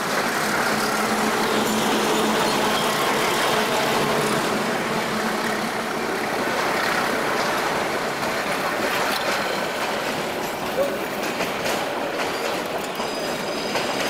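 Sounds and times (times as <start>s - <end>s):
diesel locomotive drone: 0.0s - 14.0s
train wheels rumbling on rails: 0.0s - 14.0s.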